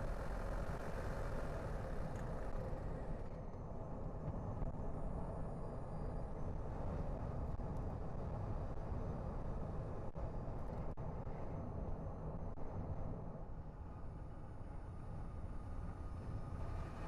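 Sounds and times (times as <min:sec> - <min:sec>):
car tyre and engine noise: 0:00.0 - 0:17.0.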